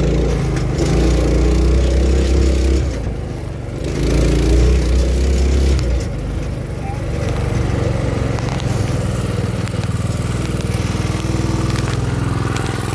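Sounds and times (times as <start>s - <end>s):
go-kart engine idling: 0.0s - 12.9s.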